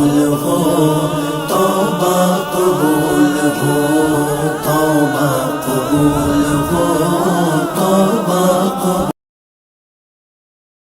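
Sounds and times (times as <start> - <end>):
layered vocal backing: 0.0 - 9.2
person singing devotional vocals: 0.0 - 9.2.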